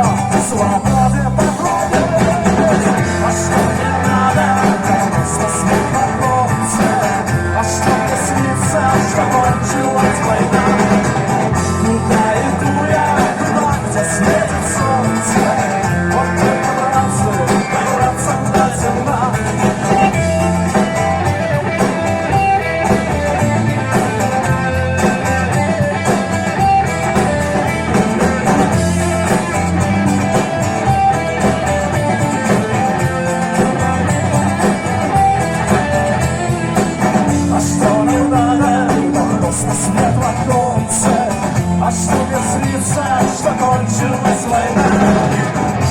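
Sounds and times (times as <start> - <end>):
electric guitar: 0.0 - 45.9
rock band playing: 0.0 - 45.9.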